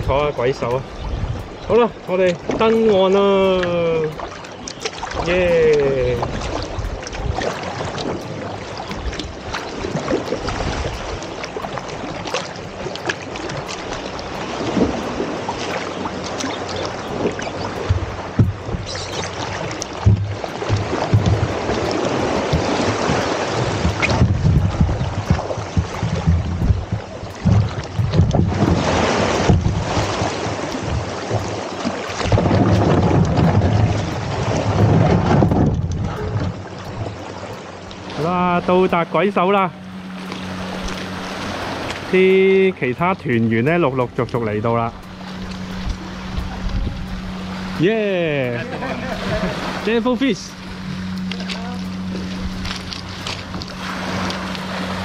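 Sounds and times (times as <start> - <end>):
water splashing around a kayak: 0.0 - 55.0
wind buffeting microphone: 0.0 - 55.0.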